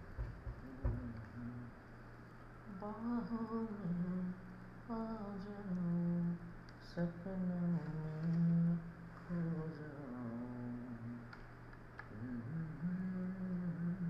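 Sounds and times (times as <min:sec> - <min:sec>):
steady low hum: 0:00.0 - 0:14.0
person humming a slow tune: 0:00.5 - 0:01.9, 0:02.7 - 0:11.4, 0:12.0 - 0:14.0.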